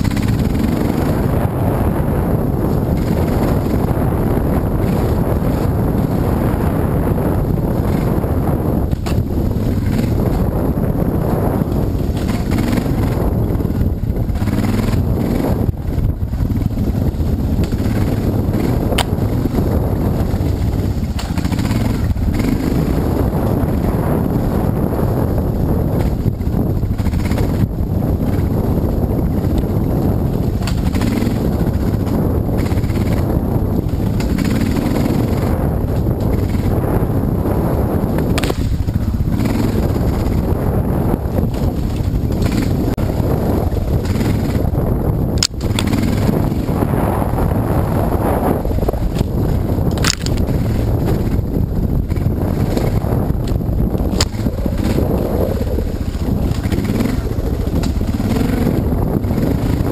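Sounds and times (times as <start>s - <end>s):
dirt bike engine running: 0.0s - 59.9s
wind buffeting microphone: 0.0s - 59.9s.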